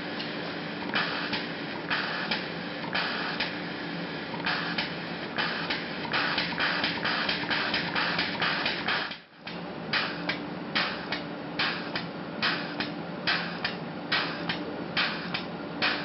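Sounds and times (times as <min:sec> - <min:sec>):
steady pump hum: 0:00.0 - 0:16.0.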